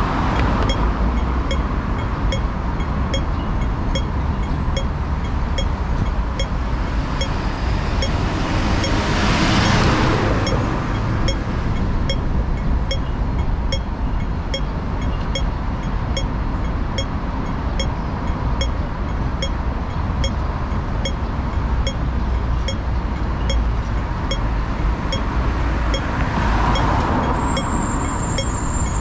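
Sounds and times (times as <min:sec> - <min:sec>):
city road traffic: 0:00.0 - 0:29.0
faint regular ticking: 0:00.4 - 0:06.6, 0:10.4 - 0:28.6.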